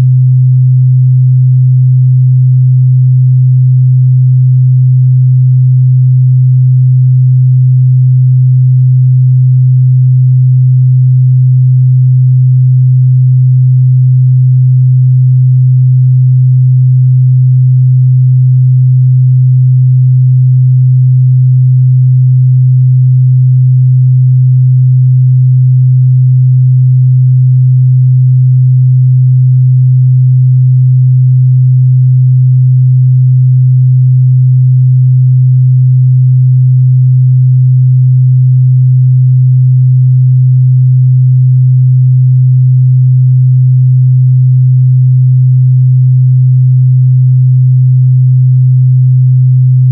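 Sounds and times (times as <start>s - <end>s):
steady low sine test tone: 0.0s - 47.2s, 47.8s - 49.9s.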